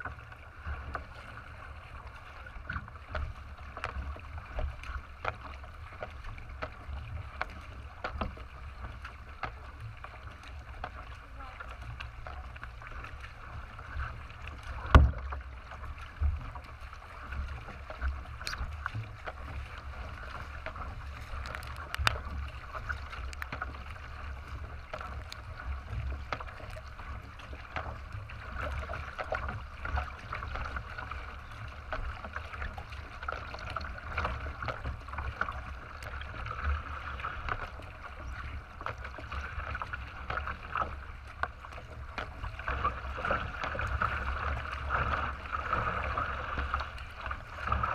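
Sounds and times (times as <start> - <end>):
low rumble at bow: 0.0 - 47.9
paddle strokes: 0.0 - 47.9
water splashing against kayak hull: 0.0 - 47.9.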